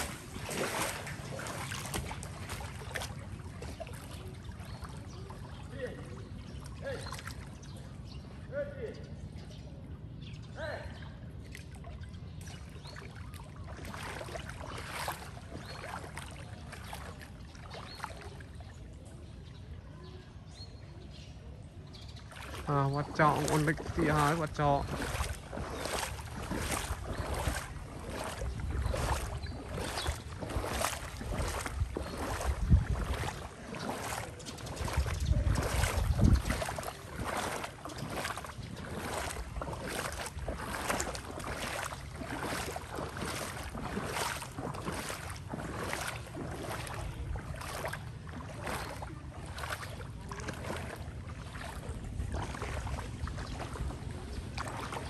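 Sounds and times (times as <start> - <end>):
rhythmic splashing in water: 0.0 - 8.1, 11.2 - 19.2, 22.2 - 55.0.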